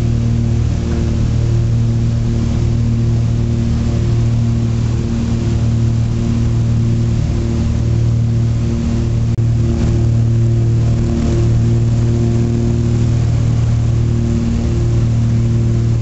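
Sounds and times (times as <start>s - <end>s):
propeller plane engines droning: 0.0s - 16.0s.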